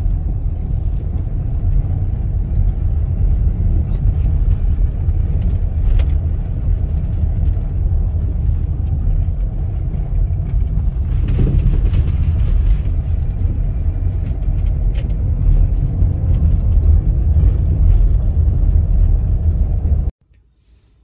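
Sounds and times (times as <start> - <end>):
road and engine rumble in car: 0.0 - 21.0.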